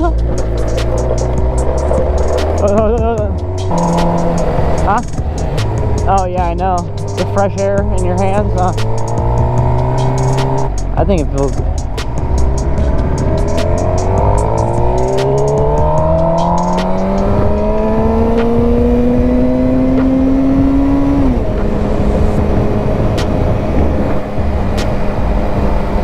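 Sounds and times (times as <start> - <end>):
motorcycle engine under throttle: 0.0 - 26.0
wind rushing over microphone: 0.0 - 26.0.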